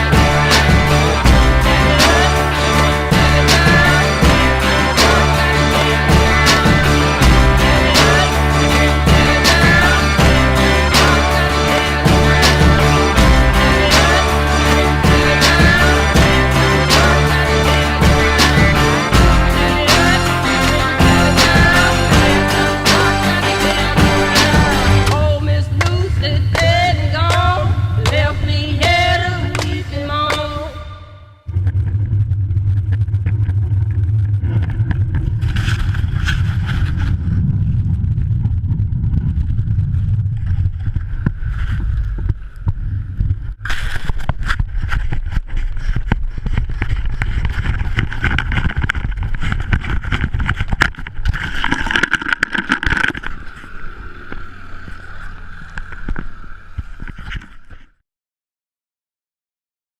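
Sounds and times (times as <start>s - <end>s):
motor whining and rumbling: 0.0s - 30.4s, 31.4s - 43.7s, 46.4s - 57.9s.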